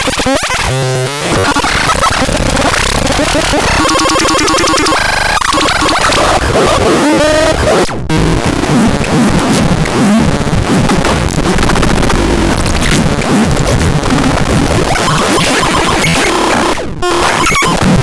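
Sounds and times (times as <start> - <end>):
harsh distorted electronic noise: 0.0 - 18.0.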